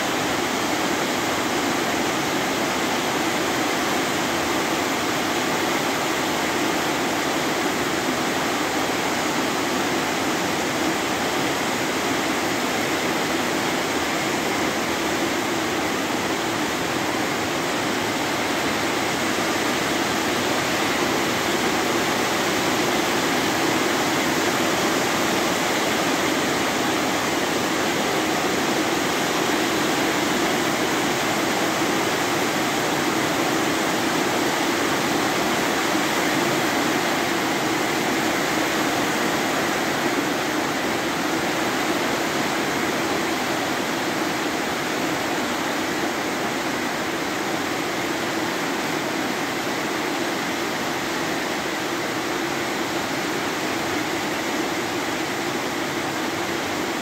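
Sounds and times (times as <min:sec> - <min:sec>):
heavy rain on trees and roofs: 0:00.0 - 0:57.0.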